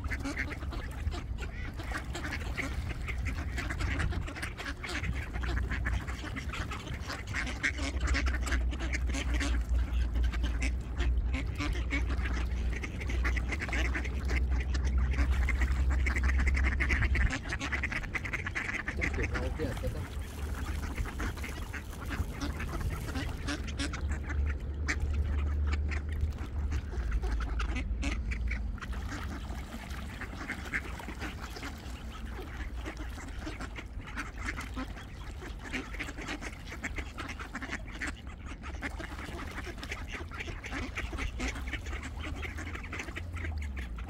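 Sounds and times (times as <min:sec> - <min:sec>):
ducks quacking: 0:00.0 - 0:44.0
steady low rumble: 0:00.0 - 0:44.0.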